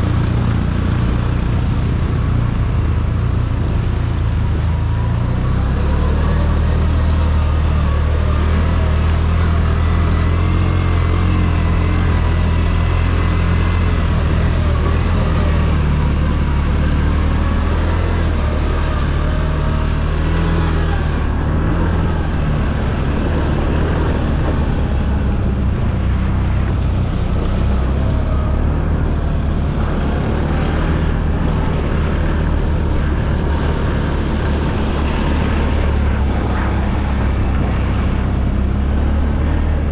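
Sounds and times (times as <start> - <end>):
atv engine running: 0.0 - 39.9
road noise: 0.0 - 39.9.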